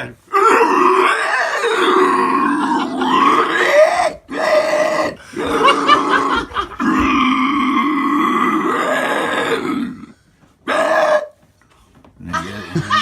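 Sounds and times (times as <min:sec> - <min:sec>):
man imitating pig squeals: 0:00.3 - 0:11.4.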